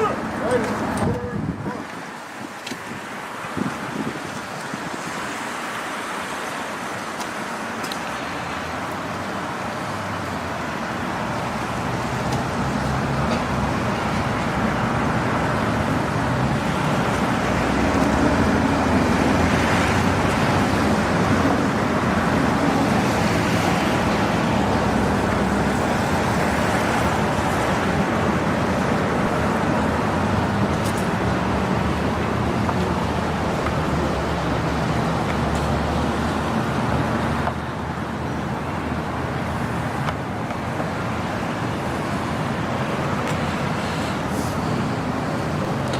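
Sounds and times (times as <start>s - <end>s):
vehicle engines running: 0.0s - 45.9s.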